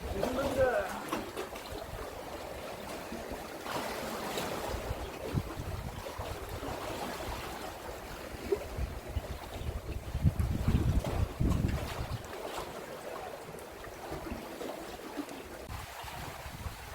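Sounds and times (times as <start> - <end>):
sea waves washing ashore: 0.0 - 16.9
wind: 0.0 - 16.9.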